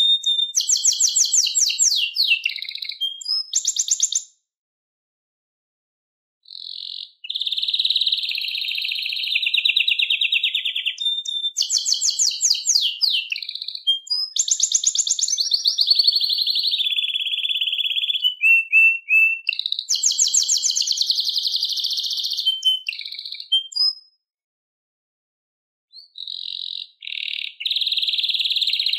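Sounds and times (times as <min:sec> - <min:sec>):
canary singing trills: 0:00.0 - 0:04.2, 0:06.5 - 0:24.0, 0:25.9 - 0:28.9.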